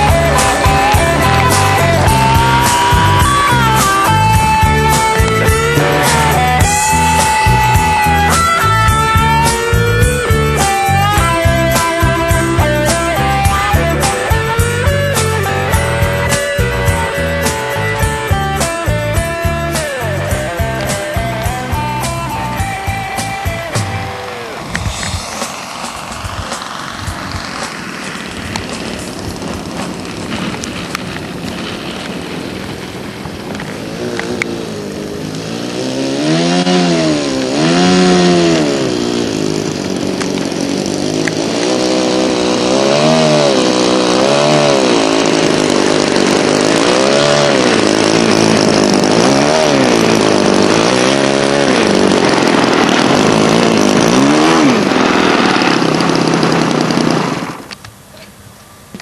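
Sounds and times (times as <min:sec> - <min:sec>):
model aircraft engine running: 0:00.0 - 0:58.2.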